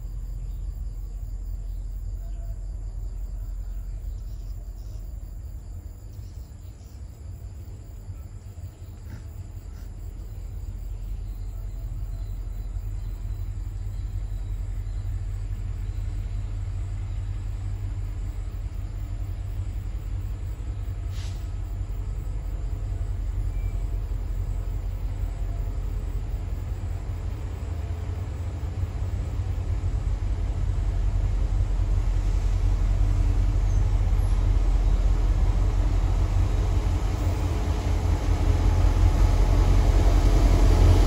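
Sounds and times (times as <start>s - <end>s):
diesel locomotives rumbling: 0.0s - 41.0s.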